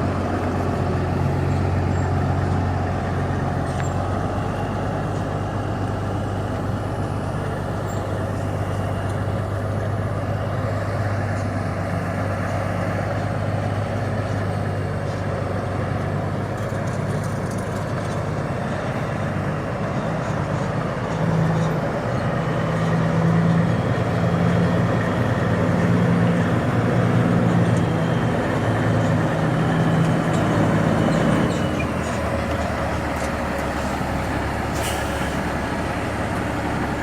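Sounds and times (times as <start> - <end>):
diesel truck engine humming: 0.0 - 37.0.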